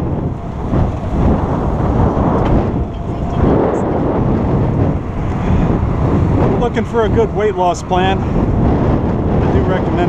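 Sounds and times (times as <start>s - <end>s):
low rolling rumble: 0.0s - 10.0s
wind buffeting microphone: 0.0s - 10.0s.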